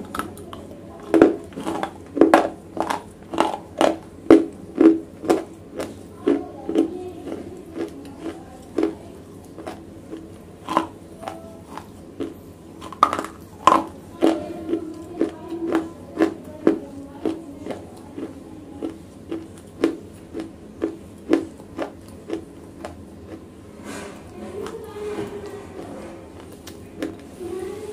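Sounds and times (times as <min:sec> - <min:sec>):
crunching and chewing slate: 0:00.0 - 0:27.3.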